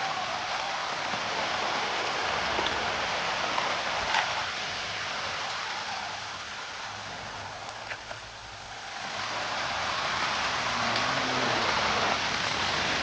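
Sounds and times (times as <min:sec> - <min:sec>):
flood water rushing: 0:00.0 - 0:13.0
rain: 0:00.0 - 0:13.0.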